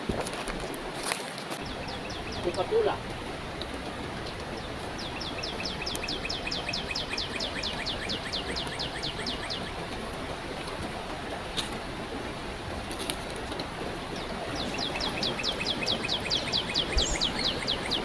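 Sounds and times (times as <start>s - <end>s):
river flowing: 0.0s - 18.0s.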